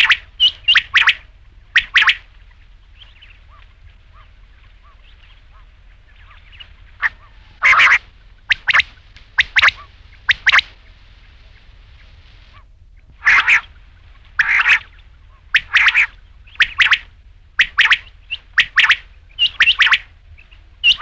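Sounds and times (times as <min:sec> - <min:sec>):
faint chirps: 0:00.0 - 0:21.0
quail calling: 0:00.0 - 0:21.0.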